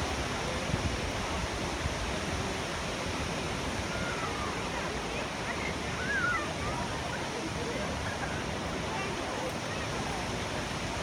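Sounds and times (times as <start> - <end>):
stream flowing over stones: 0.0 - 11.0.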